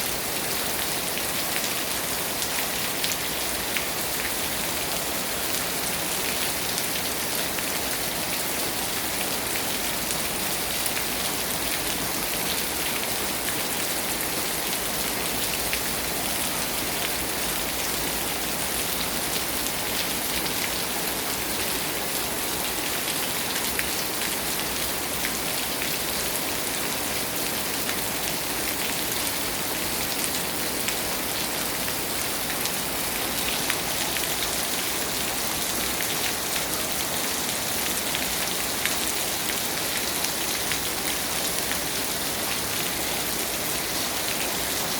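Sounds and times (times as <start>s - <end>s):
heavy rain on pavement: 0.0s - 44.9s.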